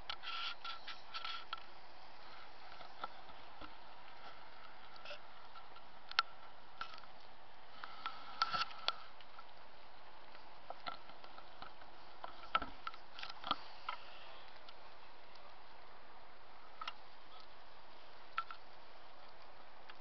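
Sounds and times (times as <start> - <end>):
small clicks and ticks: 0.0 - 15.9, 16.6 - 20.0
steady night hiss: 0.0 - 20.0.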